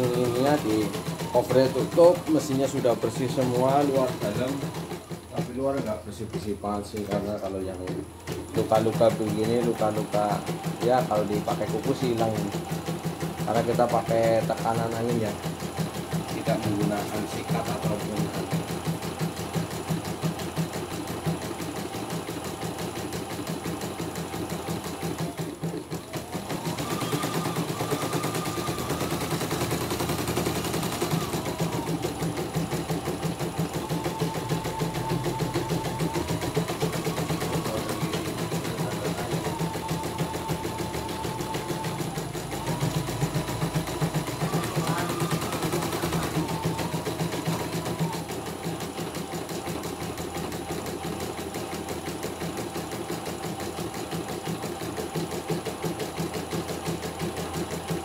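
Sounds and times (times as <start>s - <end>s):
machine motor whine: 0.0s - 54.0s
embroidery machine needle clatter: 0.0s - 58.0s.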